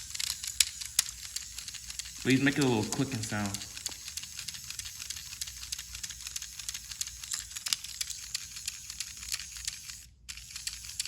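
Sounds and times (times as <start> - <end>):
rapid clicking from drive: 0.0 - 9.8
toy train motor humming: 0.0 - 11.0.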